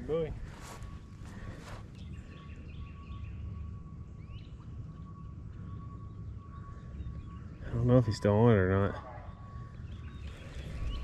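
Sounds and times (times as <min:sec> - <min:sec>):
steady low rumble: 0:00.0 - 0:11.0
thin steady whine: 0:00.0 - 0:11.0
faint bird chirps: 0:00.7 - 0:11.0.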